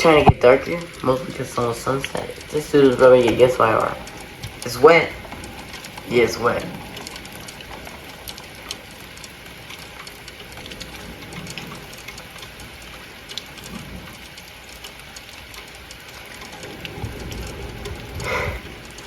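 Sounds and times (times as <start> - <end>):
drips ticking: 0.0 - 19.0
steady rain falling: 0.0 - 19.0.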